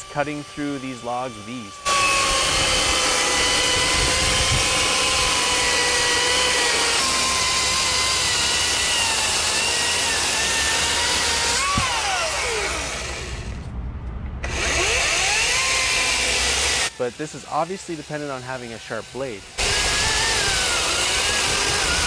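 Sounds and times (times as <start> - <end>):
electric chainsaw cutting log: 0.0 - 13.6, 14.4 - 22.0.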